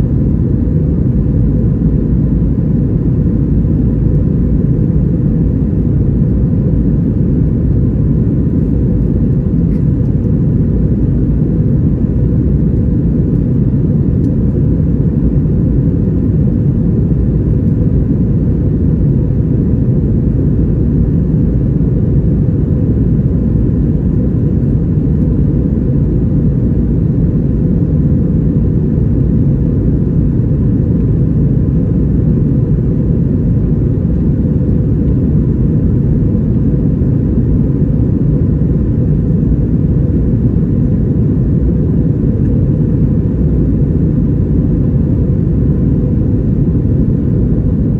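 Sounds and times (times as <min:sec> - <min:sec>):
faint steady whine: 0:00.0 - 0:47.9
jet engine cabin rumble: 0:00.0 - 0:47.9.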